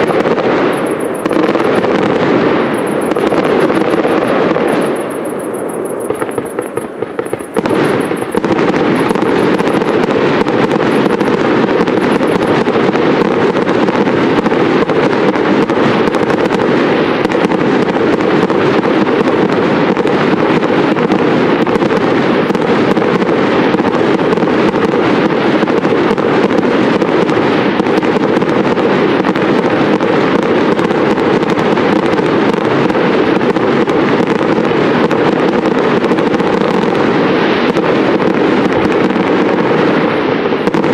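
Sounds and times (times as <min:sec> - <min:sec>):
fireworks crackling and banging: 0:00.0 - 0:40.9.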